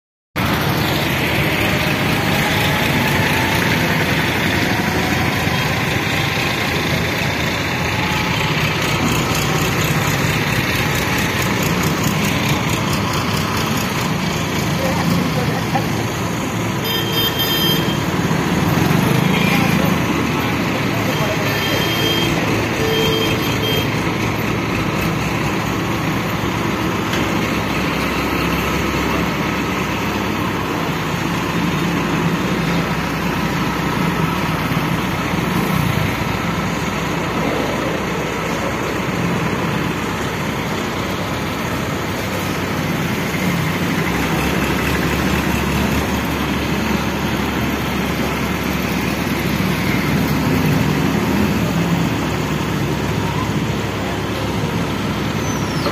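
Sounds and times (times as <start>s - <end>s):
heavy engine running: 0.4s - 55.9s
street noise: 0.4s - 55.9s.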